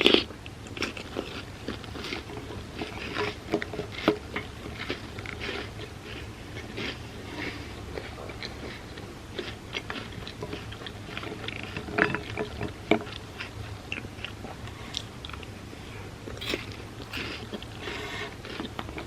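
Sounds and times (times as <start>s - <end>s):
chewing crunchy cereal: 0.0s - 19.0s.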